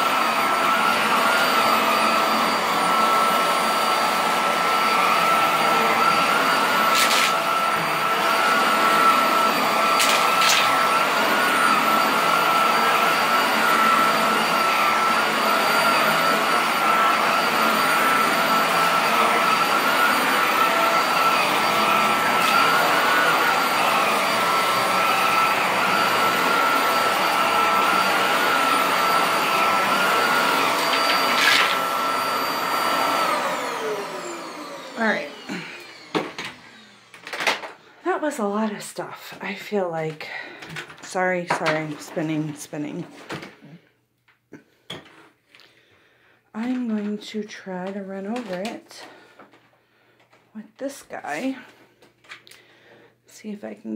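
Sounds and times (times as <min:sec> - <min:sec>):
vacuum cleaner running: 0:00.0 - 0:43.8, 0:46.6 - 0:53.9.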